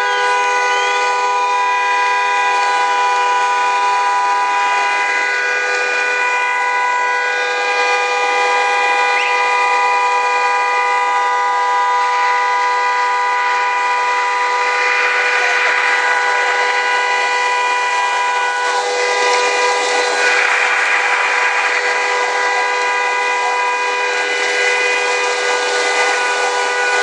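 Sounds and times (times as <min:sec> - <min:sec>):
horn blaring: 0:00.0 - 0:27.0.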